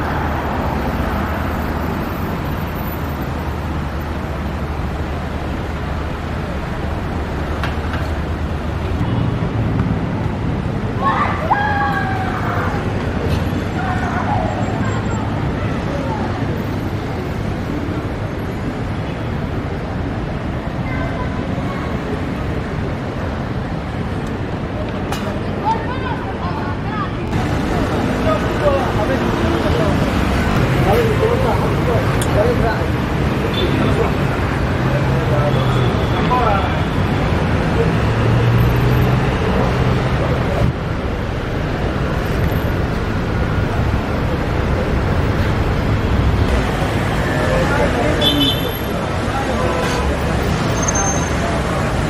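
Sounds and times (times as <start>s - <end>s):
cars and scooters passing: 0.0s - 52.0s
traffic rumble: 0.0s - 52.0s.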